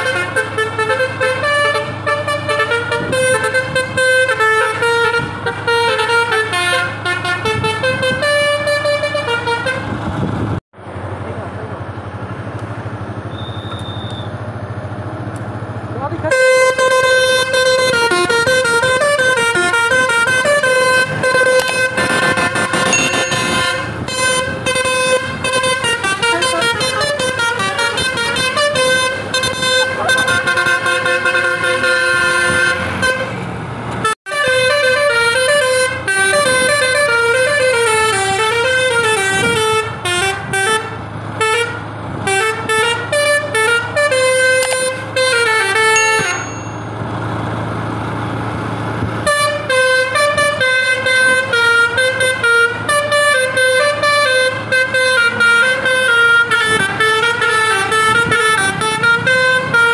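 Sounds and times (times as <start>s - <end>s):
bus air horn playing melody: 0.0s - 10.2s, 16.2s - 47.0s, 49.2s - 59.9s.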